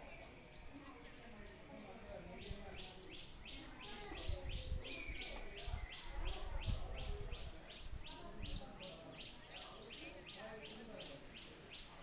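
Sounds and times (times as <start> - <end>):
sparrows chirping: 1.4 - 12.0.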